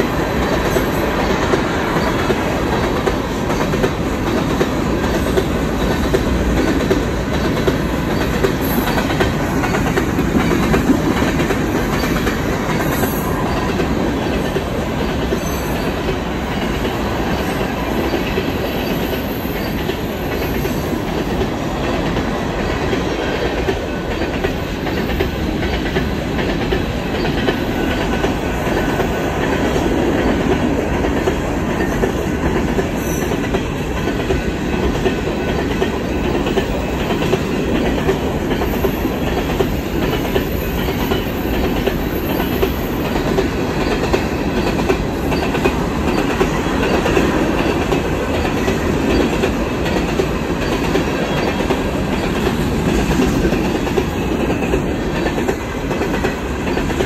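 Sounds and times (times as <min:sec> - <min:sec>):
freight train wheels rumbling: 0:00.0 - 0:57.0
wheels clicking over rail joints: 0:00.0 - 0:57.0.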